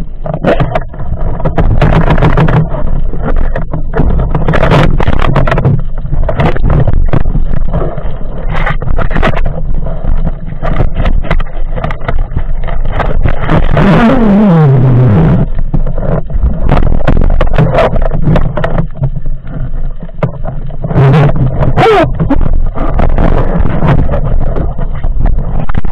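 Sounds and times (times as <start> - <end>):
clicks and knocks of gear: 0.0 - 14.3, 15.3 - 25.9
underwater low rumble: 0.0 - 25.9.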